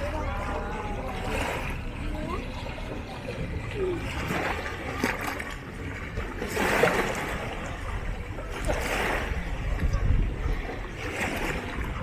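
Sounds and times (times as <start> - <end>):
waves lapping against rocks: 0.0 - 12.0.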